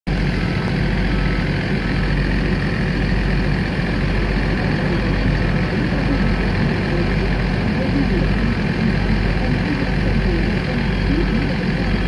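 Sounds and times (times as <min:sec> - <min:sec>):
diesel truck engine running: 0:00.1 - 0:12.0.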